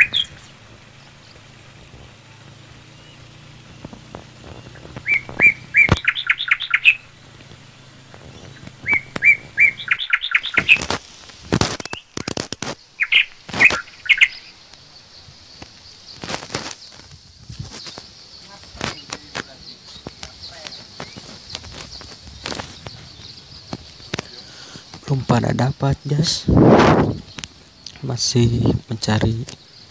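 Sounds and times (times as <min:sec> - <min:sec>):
bird chirping: 0:00.0 - 0:11.0, 0:11.6 - 0:29.9
rustling: 0:00.0 - 0:14.9, 0:15.5 - 0:25.2.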